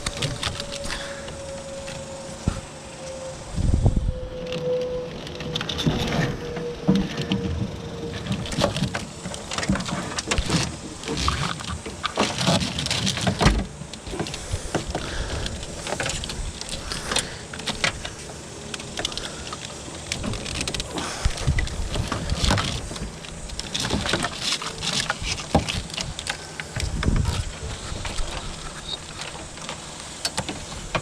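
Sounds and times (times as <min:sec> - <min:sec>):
clicks and knocks of handling wiring: 0:00.0 - 0:03.2, 0:04.5 - 0:31.0.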